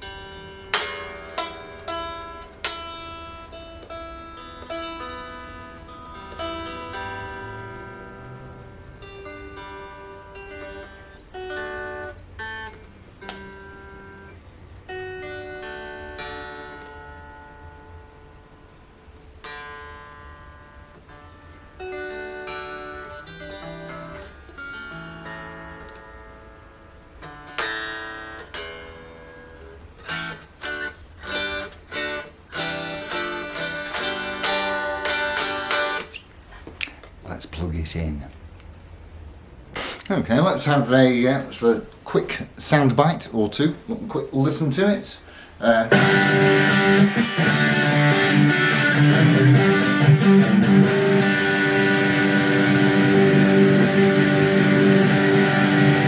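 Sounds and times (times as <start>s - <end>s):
unplugged electric guitar chords: 0.0s - 36.2s, 45.7s - 56.0s.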